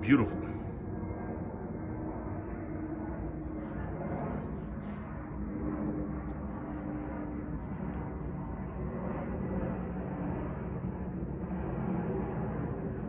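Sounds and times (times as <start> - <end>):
airliner rumble: 0.0 - 13.0.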